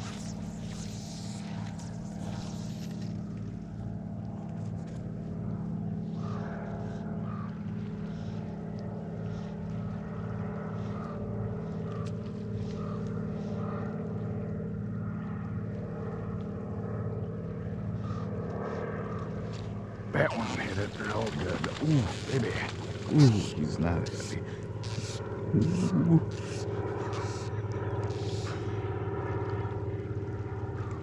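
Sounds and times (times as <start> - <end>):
engine droning: 0.0 - 31.0.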